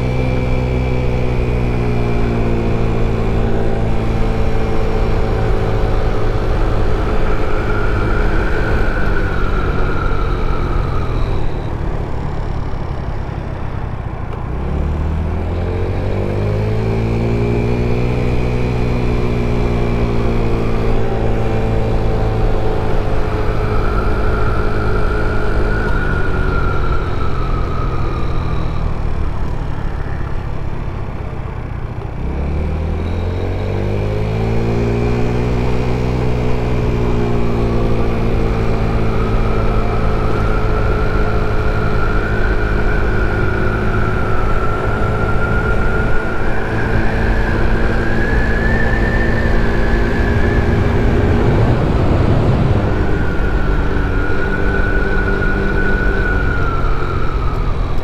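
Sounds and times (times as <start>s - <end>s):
high whine: 0.0s - 58.0s.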